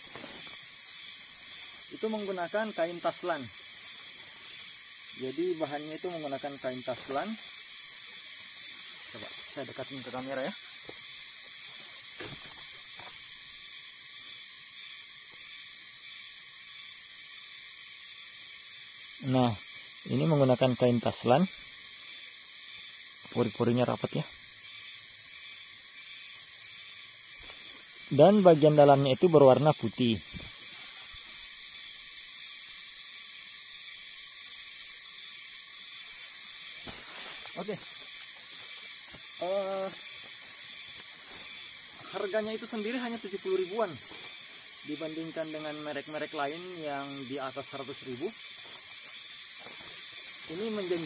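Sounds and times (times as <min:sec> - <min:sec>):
high-pitched background hiss: 0:00.0 - 0:51.0.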